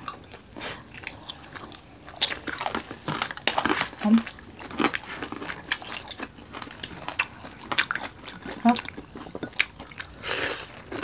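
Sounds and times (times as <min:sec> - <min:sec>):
crunchy bites and chewing: 0:01.6 - 0:11.0.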